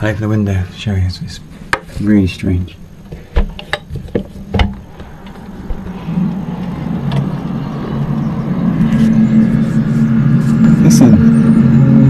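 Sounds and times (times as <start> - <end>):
low droning noise: 0.0 - 12.0.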